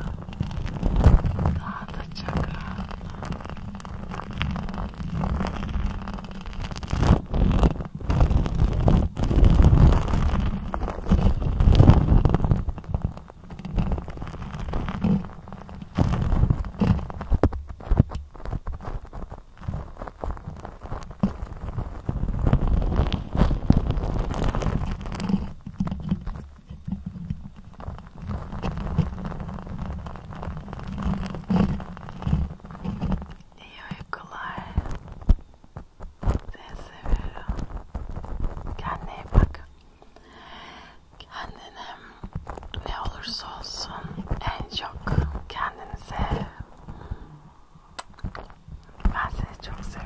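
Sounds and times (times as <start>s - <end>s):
lipstick scraping on microphone: 0.0s - 35.5s, 36.2s - 40.3s, 40.9s - 50.0s.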